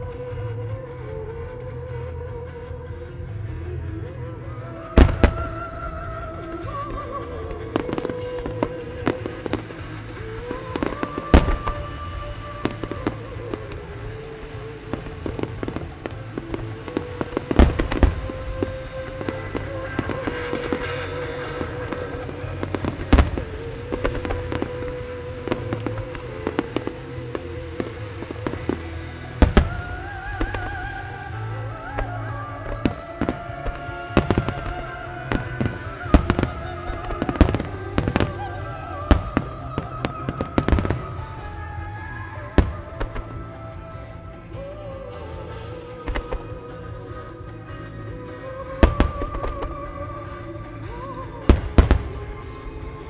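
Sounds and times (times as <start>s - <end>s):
background music with held notes: 0.0s - 53.0s
fireworks booming: 4.7s - 53.0s
fireworks pops and crackles: 4.8s - 53.0s.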